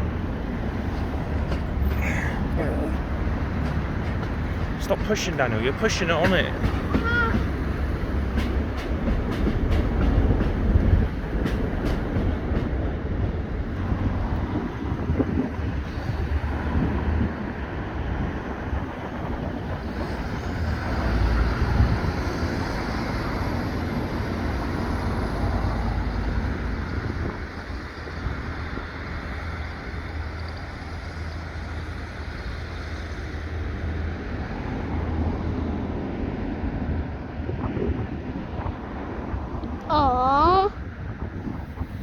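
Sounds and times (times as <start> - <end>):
train rumbling past: 0.0 - 42.0
wind buffeting microphone: 0.0 - 42.0.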